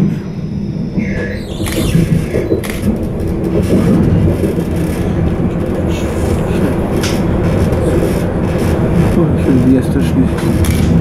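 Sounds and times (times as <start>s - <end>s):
wheels rumbling on track: 1.6s - 11.0s.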